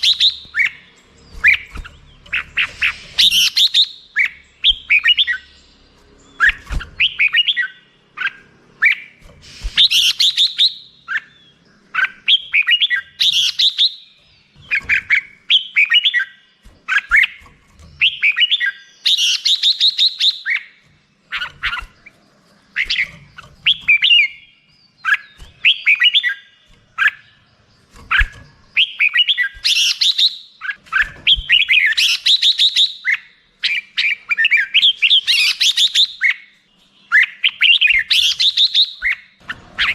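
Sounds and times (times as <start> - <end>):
bird singing chirpy whistled phrases: 0.0 - 39.9.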